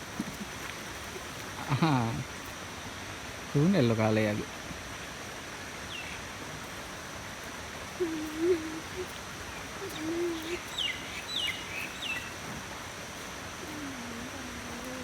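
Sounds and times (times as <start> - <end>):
mountain stream flowing: 0.0 - 15.0.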